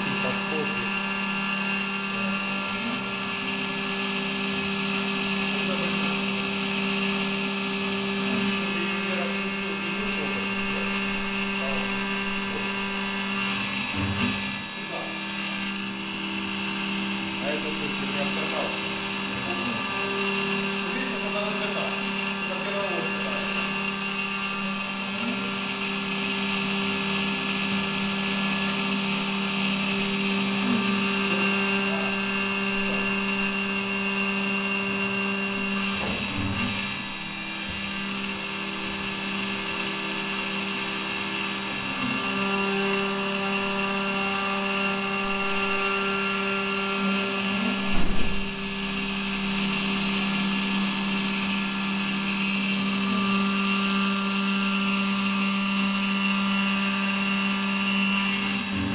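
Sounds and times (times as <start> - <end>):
milling machine spindle whining: 0.0 - 58.9.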